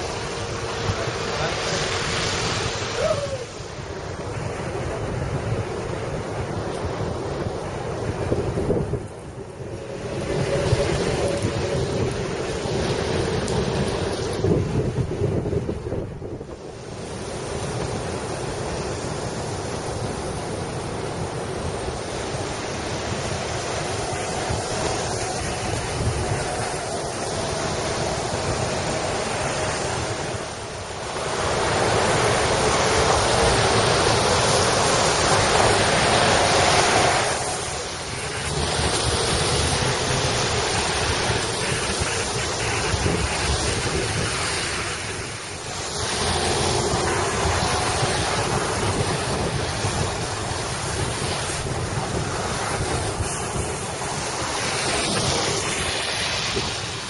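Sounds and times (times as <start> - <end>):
waves breaking: 0.0 - 57.0
wind buffeting microphone: 0.0 - 57.0.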